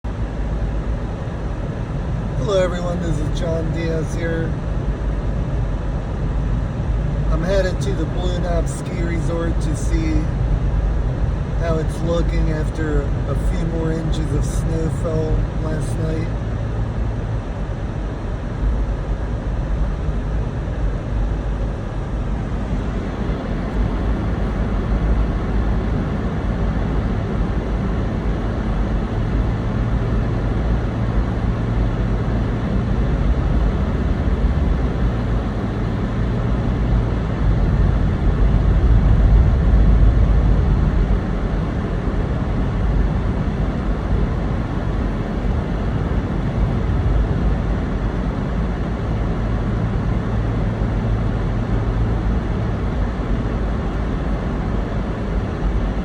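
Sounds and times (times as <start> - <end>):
faint engine hum: 0.0 - 56.0.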